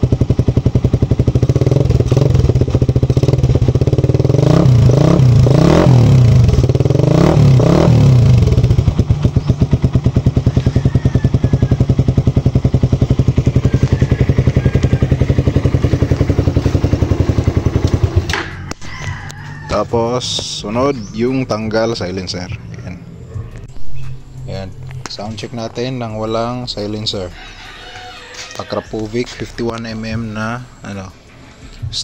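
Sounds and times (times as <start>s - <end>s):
motorcycle engine revving and idling: 0.0s - 32.0s.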